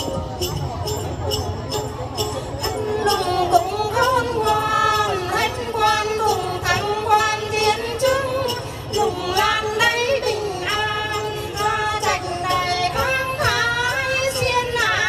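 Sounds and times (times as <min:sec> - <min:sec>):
small bells jingling: 0:00.0 - 0:15.0
women singing together: 0:02.6 - 0:15.0.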